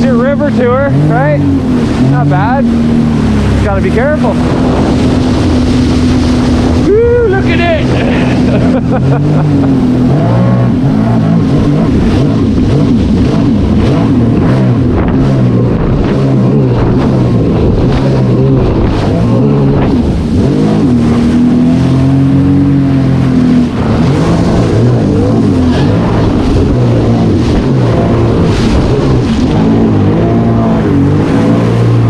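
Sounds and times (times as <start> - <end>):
personal watercraft engine running: 0.0 - 32.0.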